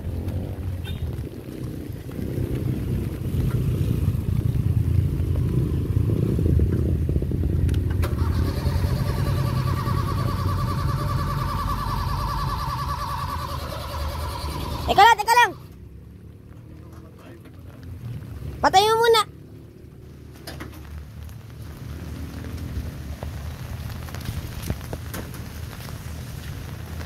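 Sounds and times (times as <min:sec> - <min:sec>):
jeep engine rumbling: 0:00.0 - 0:27.0.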